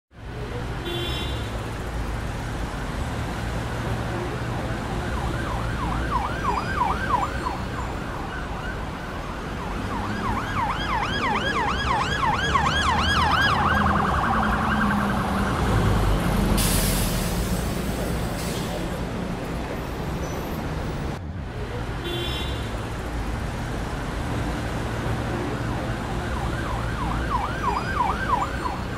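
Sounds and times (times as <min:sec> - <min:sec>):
low rumble of traffic: 0:00.1 - 0:28.9.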